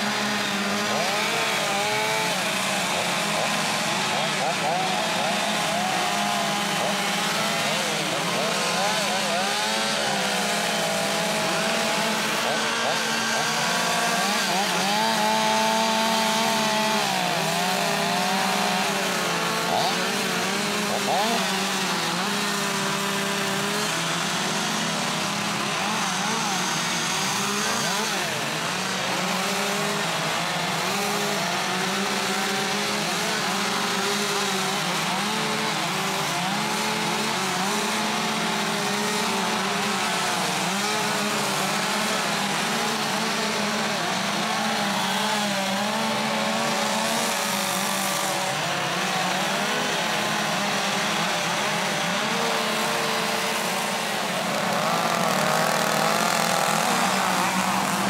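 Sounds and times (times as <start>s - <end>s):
chainsaws cutting wood: 0.0s - 58.0s.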